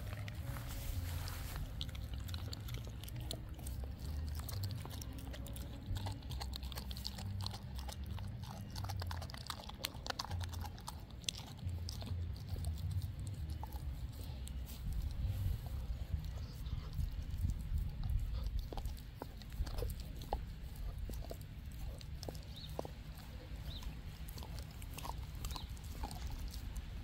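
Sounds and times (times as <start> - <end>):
dog chewing meat: 0.0 - 27.0.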